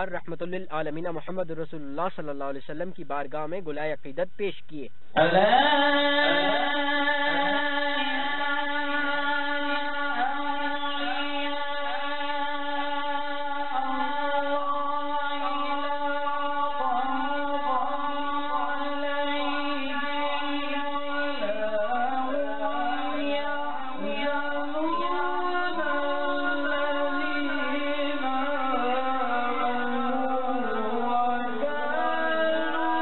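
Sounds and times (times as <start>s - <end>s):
man chanting into a microphone: 0.0s - 33.0s.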